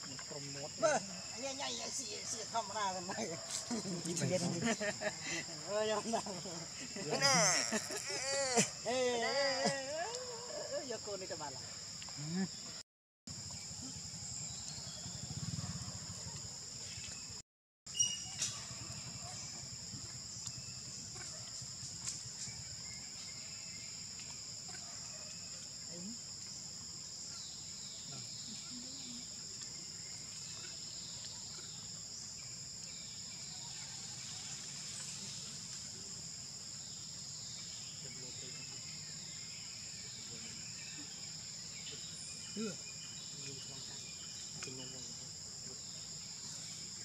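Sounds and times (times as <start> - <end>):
insects buzzing: 0.0 - 47.0.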